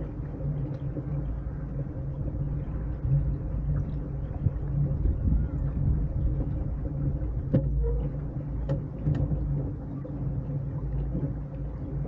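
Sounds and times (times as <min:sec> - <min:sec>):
motor hum: 0:00.0 - 0:12.0
wind and water against hull: 0:00.0 - 0:12.0.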